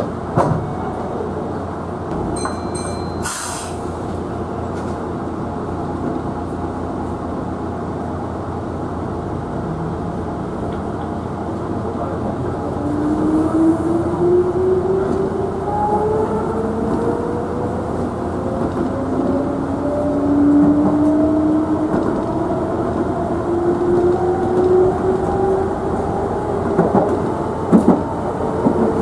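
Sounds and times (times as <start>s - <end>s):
wheel and rail rumble: 0.0s - 29.0s.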